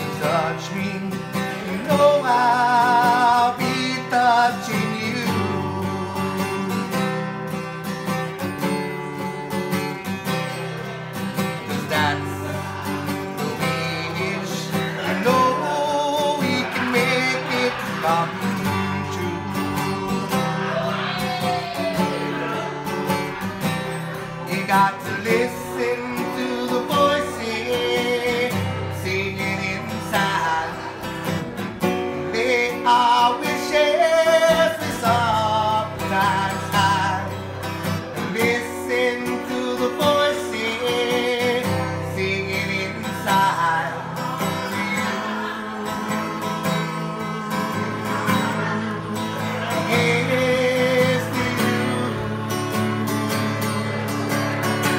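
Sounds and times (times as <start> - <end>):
two guitars playing: 0.0 - 54.9.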